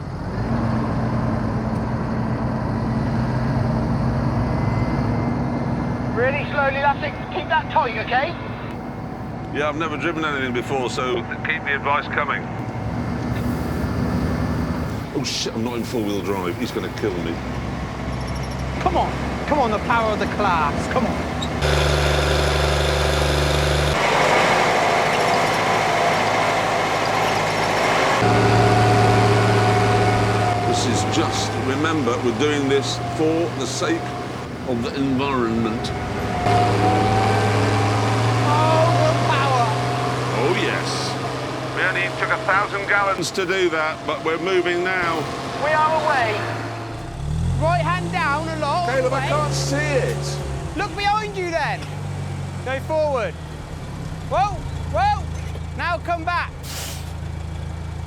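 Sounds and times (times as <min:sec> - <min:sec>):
tractor diesel engine revving: 0:00.0 - 0:11.8, 0:12.5 - 0:58.0.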